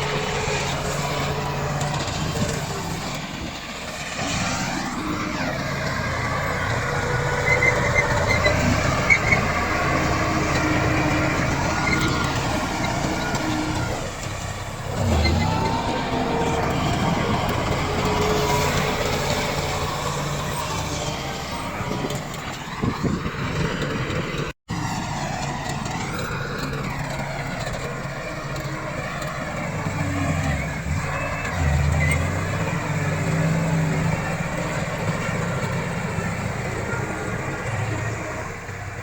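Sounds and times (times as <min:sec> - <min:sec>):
bulldozer diesel engine working: 0:00.0 - 0:39.0.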